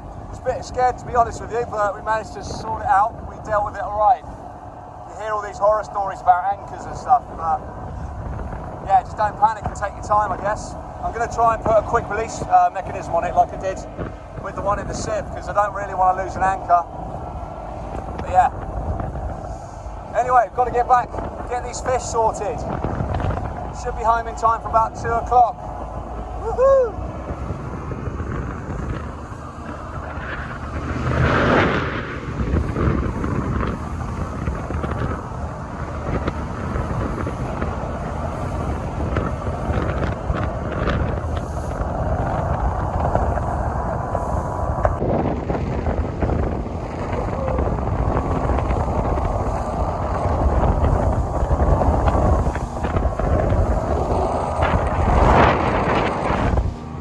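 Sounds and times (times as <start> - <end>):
outboard motor running: 0.0 - 57.0
wind buffeting microphone: 0.0 - 57.0.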